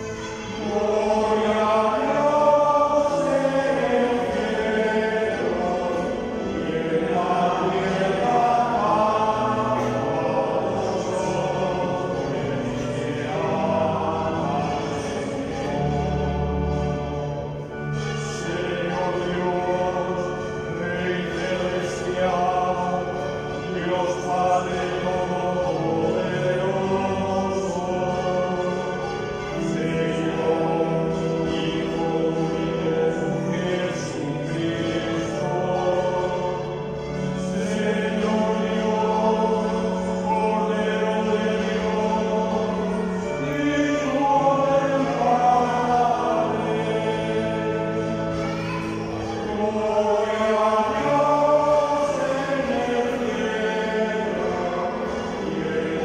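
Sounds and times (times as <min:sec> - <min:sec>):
choir singing sacred music: 0:00.0 - 0:56.0.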